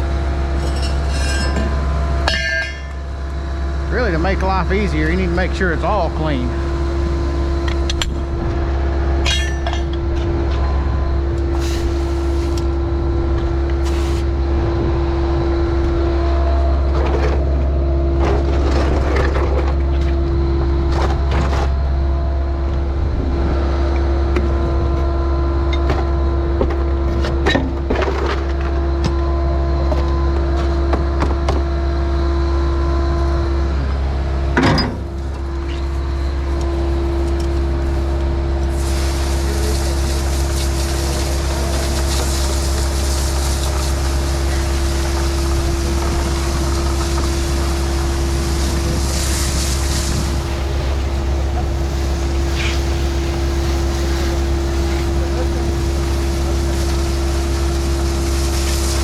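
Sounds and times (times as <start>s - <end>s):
heavy equipment engine humming: 0.0s - 59.0s.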